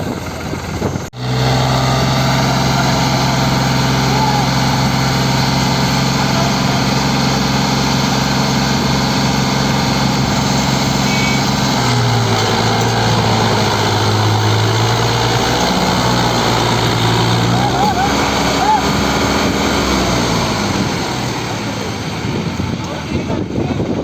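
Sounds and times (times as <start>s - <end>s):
tractor diesel engines running: 0.0s - 24.0s.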